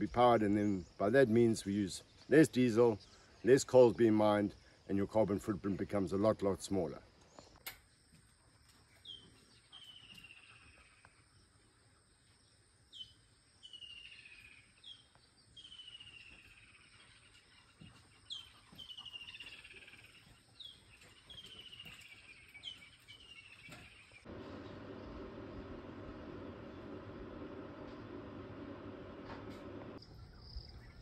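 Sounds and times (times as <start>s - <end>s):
faint bird song trill: 0.0s - 31.0s.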